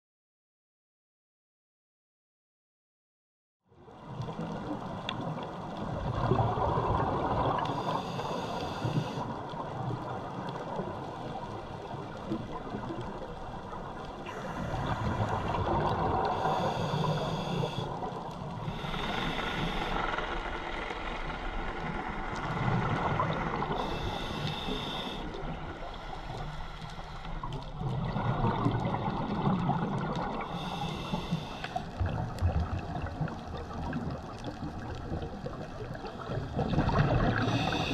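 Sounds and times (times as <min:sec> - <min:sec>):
exhaled bubbles rushing and gurgling: 0:03.8 - 0:37.9.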